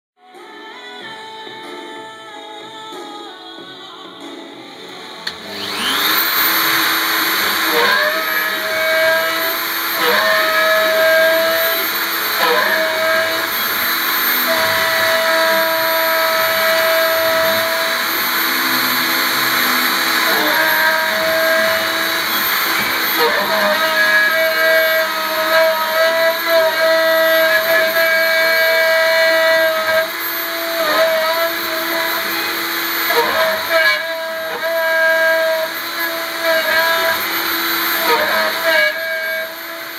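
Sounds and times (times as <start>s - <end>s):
mill spindle whine cutting metal: 4.1s - 39.9s.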